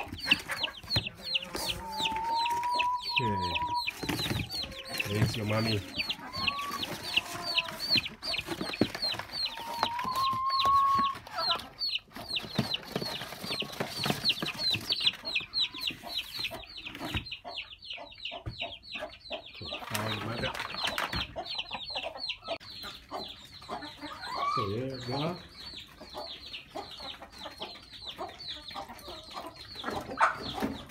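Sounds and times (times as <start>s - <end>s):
chicks peeping: 0.0s - 30.9s
hen clucking: 0.0s - 30.9s.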